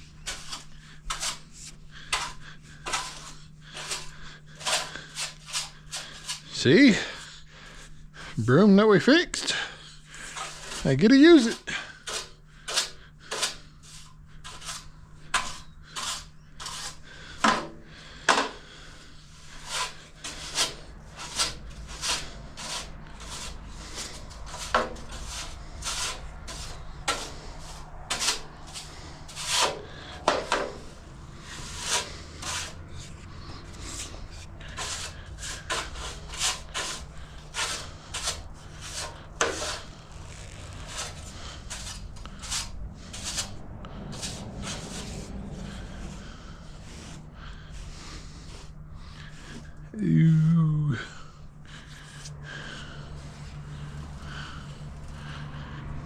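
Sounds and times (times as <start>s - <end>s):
push broom sweeping floor: 0.0s - 7.3s, 8.6s - 49.8s.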